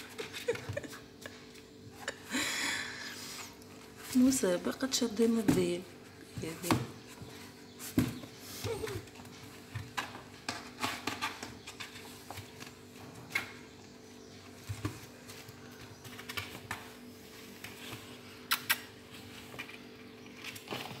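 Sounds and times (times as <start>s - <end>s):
kittens scratching on cardboard: 0.0s - 2.2s, 3.2s - 21.0s.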